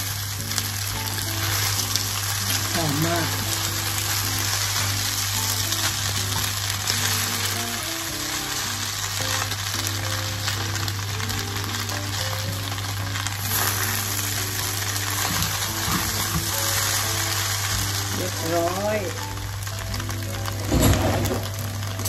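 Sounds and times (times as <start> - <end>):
background music: 0.0 - 22.0
noodles sizzling in a wok: 0.0 - 22.0.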